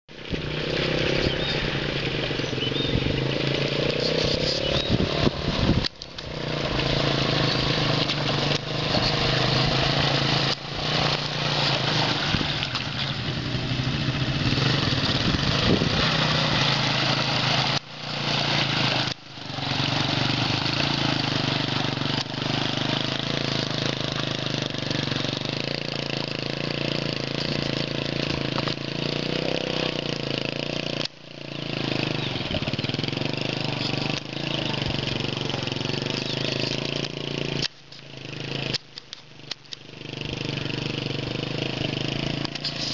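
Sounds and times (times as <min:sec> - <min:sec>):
motorcycle engine pulling: 0:00.1 - 0:42.9.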